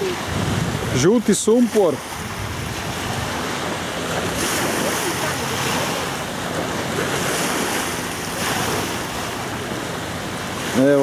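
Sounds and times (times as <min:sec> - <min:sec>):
wind rumbling on microphone: 0:00.0 - 0:10.8
choppy water along shore: 0:00.0 - 0:11.0.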